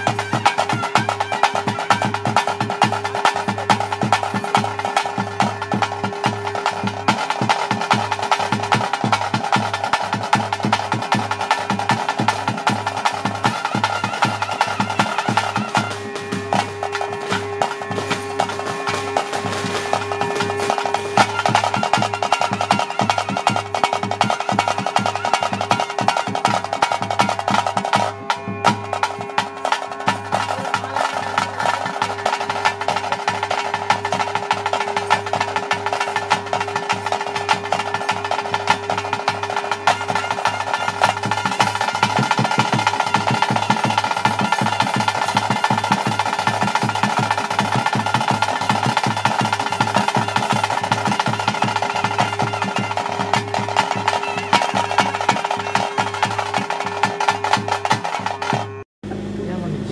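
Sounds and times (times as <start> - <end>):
fast percussion drumming: 0.0 - 58.9
steady held tone: 0.0 - 59.9.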